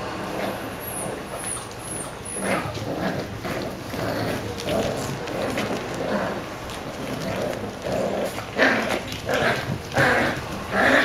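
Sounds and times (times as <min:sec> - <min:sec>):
puppies growling: 0:00.2 - 0:11.0.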